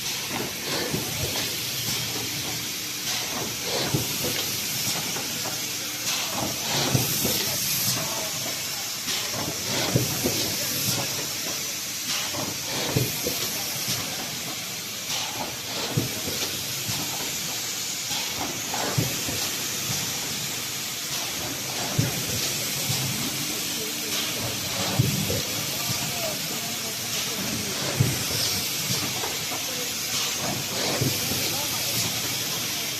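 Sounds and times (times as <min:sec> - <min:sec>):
machine hissing: 0:00.0 - 0:32.9.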